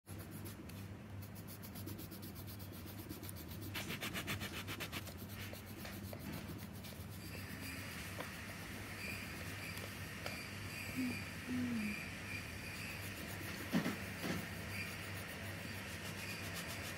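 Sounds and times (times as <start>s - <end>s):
pencil scratching on paper: 0.1s - 10.5s, 12.5s - 16.9s.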